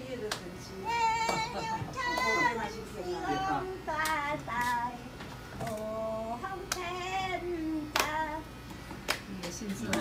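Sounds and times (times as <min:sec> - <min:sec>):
elderly woman singing unaccompanied: 0:00.0 - 0:08.5.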